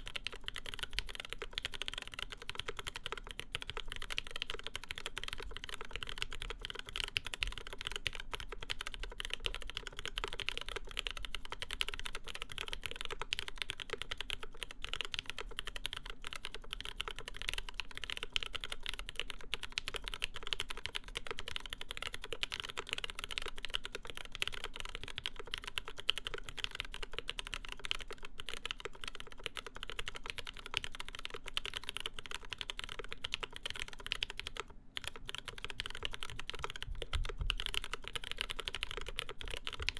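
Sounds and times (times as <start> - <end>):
mechanical keyboard fast typing: 0.0 - 39.9.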